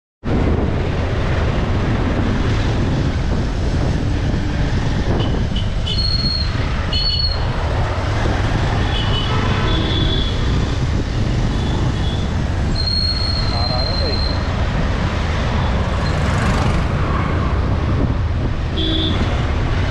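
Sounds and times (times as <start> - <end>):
motorcycle road and wind rumble: 0.2 - 19.9.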